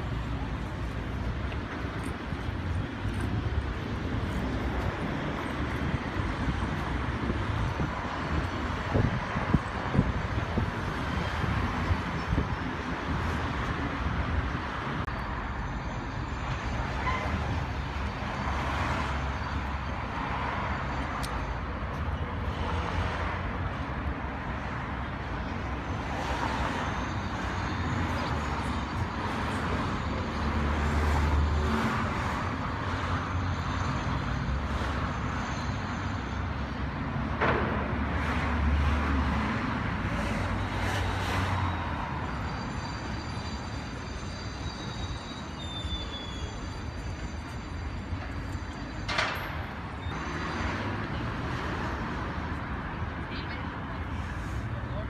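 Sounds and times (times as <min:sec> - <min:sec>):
cars passing on busy road: 0:00.0 - 0:55.0.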